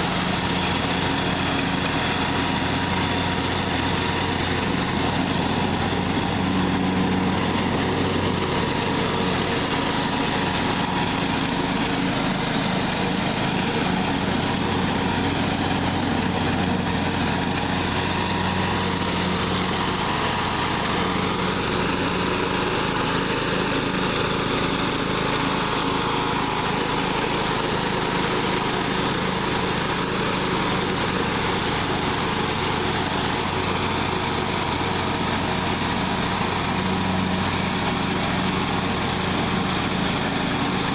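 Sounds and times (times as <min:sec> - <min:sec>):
riding lawn mower engine running: 0:00.0 - 0:40.9.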